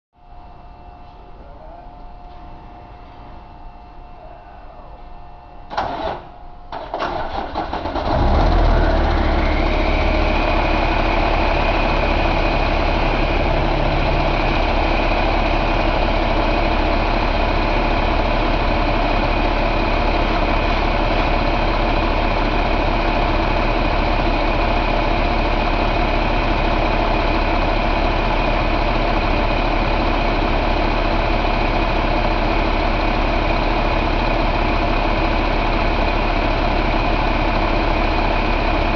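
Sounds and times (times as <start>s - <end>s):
high steady whine: 0.2s - 6.8s, 9.0s - 38.9s
diesel engine cranking and idling: 5.7s - 38.9s.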